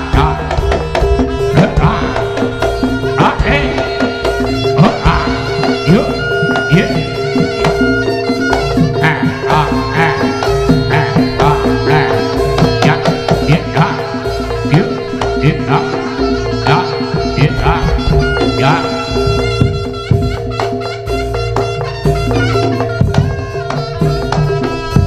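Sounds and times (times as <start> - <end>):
gamelan drumming: 0.0 - 25.0.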